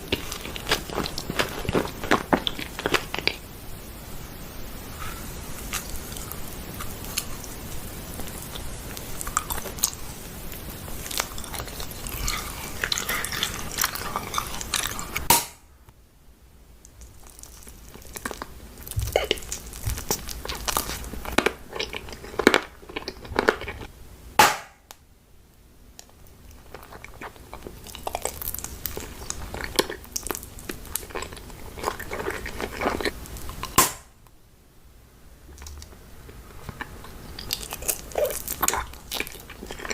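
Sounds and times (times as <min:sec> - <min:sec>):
crunching and chewing crisp food: 0:00.0 - 0:03.8, 0:04.8 - 0:15.6, 0:16.8 - 0:23.9, 0:26.0 - 0:34.1, 0:35.5 - 0:39.9.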